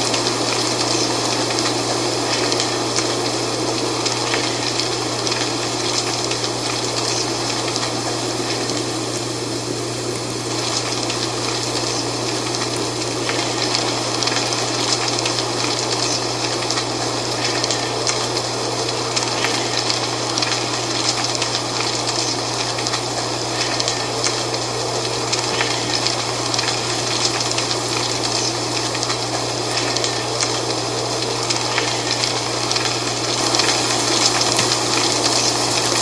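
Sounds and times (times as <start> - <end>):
wind rustling dry leaves: 0.0 - 36.0.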